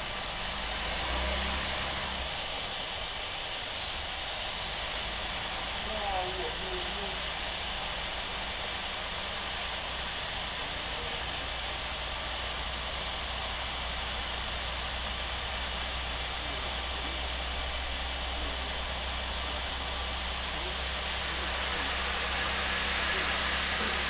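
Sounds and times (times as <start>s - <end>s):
jet engine whooshing hiss: 0.0s - 24.0s.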